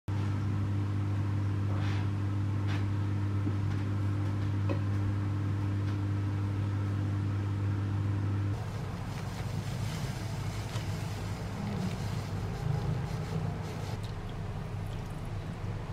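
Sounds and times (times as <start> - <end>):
low machine hum: 0.1 - 15.9.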